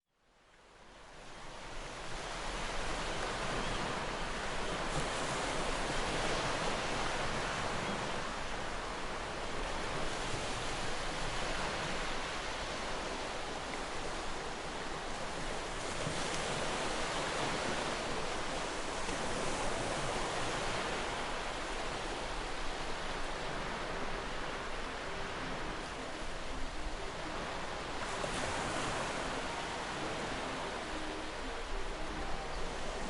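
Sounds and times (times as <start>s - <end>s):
sea surf washing: 1.2s - 33.0s.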